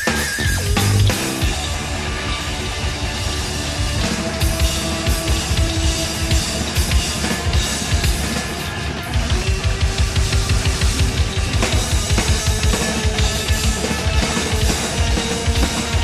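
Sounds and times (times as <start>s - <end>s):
distorted electric guitar: 0.0s - 16.0s
drum kit beat: 0.0s - 16.0s.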